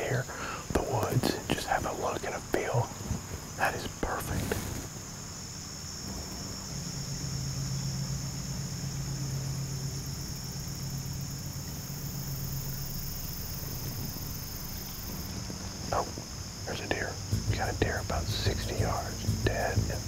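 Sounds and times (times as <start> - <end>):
insects trilling: 0.0 - 20.0
steady low hum: 0.0 - 20.0.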